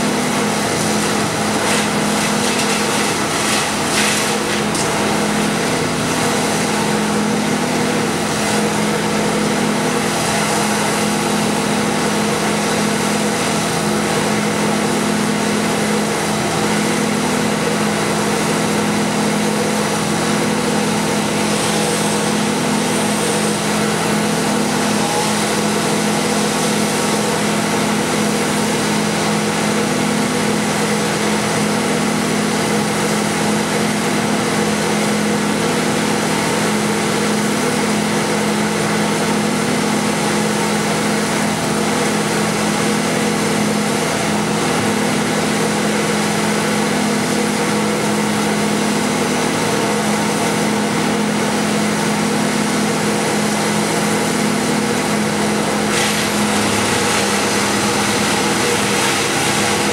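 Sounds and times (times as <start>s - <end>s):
wood chipper idling: 0.0s - 59.9s.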